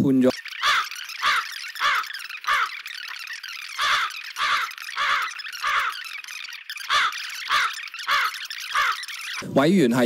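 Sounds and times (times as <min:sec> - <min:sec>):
cartoon bird squawking: 0:00.4 - 0:09.4.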